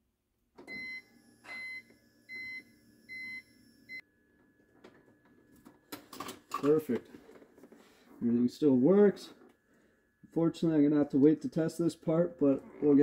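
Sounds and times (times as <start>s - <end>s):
faint electrical hum: 0.8s - 13.0s.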